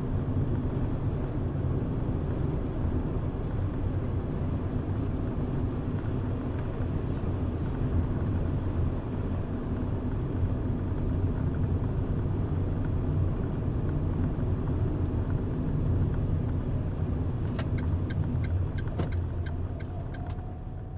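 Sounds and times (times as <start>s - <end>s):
car engine and tyre rumble: 0.0s - 20.9s.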